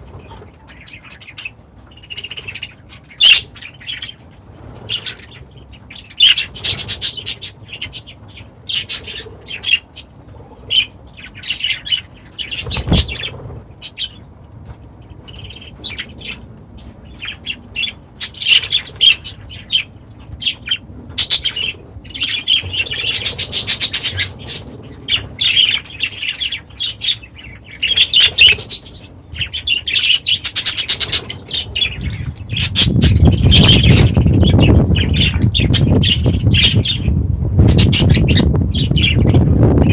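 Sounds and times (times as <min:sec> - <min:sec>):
budgerigars chattering and chirping: 0:00.0 - 0:14.3, 0:15.1 - 0:39.9.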